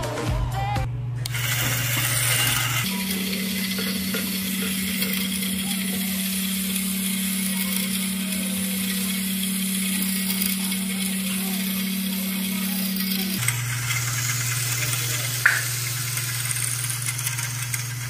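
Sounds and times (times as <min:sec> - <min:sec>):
small electric motor humming: 0:01.2 - 0:18.0.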